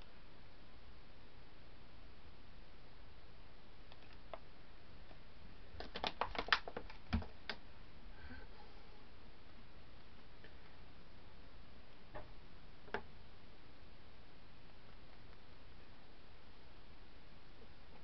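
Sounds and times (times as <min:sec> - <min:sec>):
room hiss: 0:00.0 - 0:18.0.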